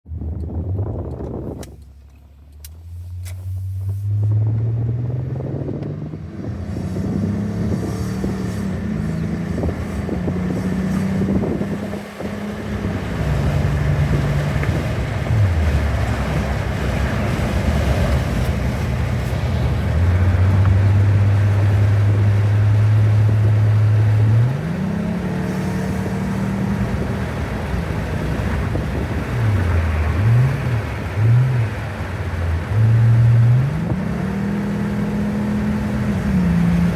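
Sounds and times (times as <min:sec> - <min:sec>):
car engine accelerating: 0:00.1 - 0:36.9.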